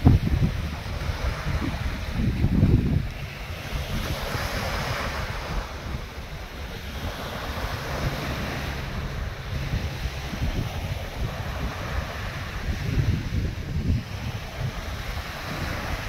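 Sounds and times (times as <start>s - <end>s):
small waves breaking on shore: 0.0s - 16.0s
wind buffeting microphone: 0.0s - 16.0s.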